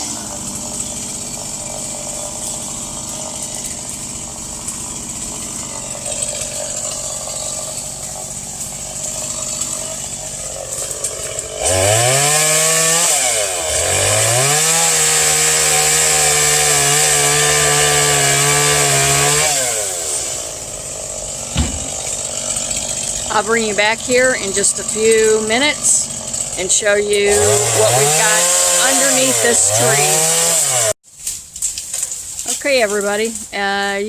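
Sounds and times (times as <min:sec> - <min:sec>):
chainsaw revving: 0:00.0 - 0:31.0.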